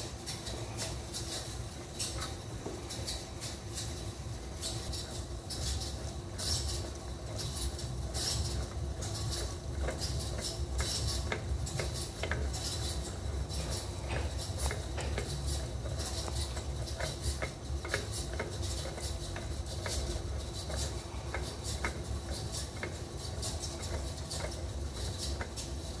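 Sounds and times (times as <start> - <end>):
gears clicking and rattling: 0.1 - 26.0.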